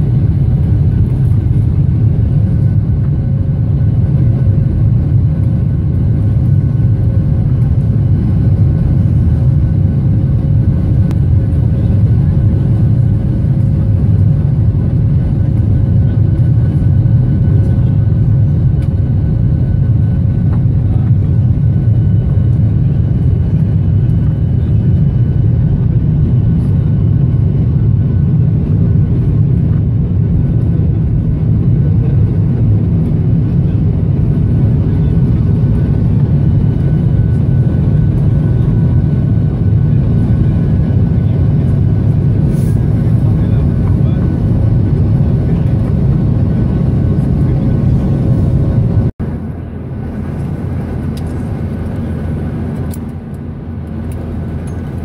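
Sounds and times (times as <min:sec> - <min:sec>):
jet cabin engine rumble: 0:00.0 - 0:55.0.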